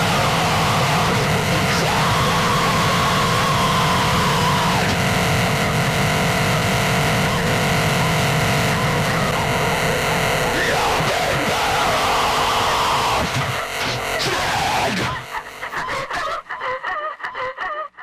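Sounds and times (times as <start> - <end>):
steady droning tones: 0.0 - 16.0
distorted noise wall: 0.0 - 16.9.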